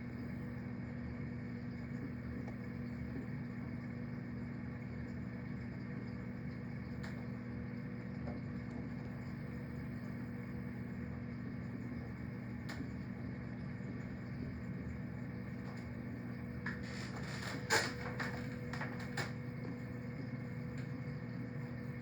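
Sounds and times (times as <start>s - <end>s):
aquarium pumps humming: 0.0s - 22.0s.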